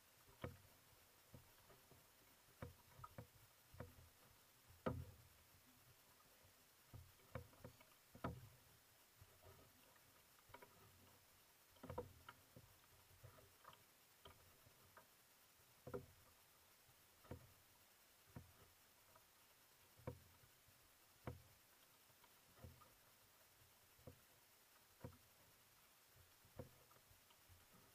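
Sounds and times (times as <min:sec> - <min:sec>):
low steady hiss: 0:00.0 - 0:27.9.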